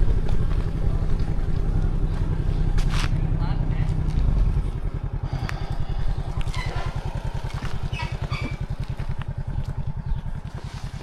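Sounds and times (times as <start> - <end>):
vehicle engine low throb: 0.0 - 11.0.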